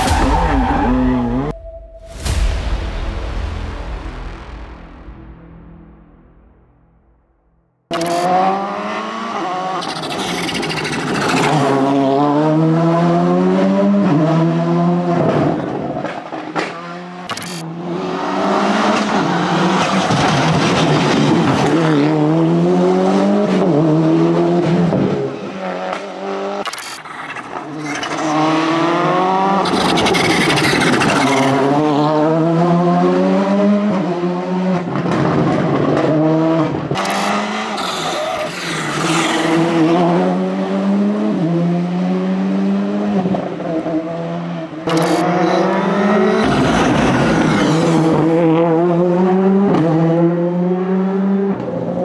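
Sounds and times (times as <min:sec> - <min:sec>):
rally car engines revving: 0:00.0 - 0:01.6, 0:07.9 - 0:52.0.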